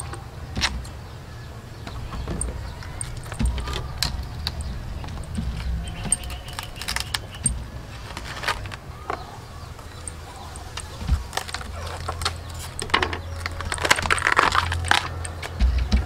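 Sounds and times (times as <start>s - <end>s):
crisp clicks and crackles: 0.0s - 16.0s
steady low rumble: 0.0s - 16.0s.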